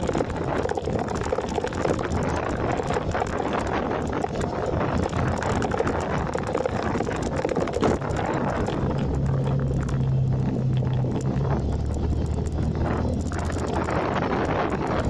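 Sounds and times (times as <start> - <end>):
motorcycle engine hum: 0.0 - 15.0
wind buffeting microphone: 0.0 - 15.0.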